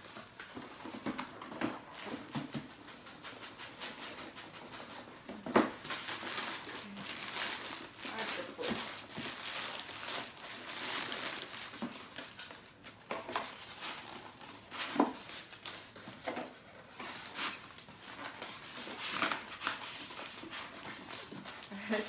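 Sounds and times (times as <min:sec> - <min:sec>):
cardboard and plastic rustling: 0:00.0 - 0:22.0.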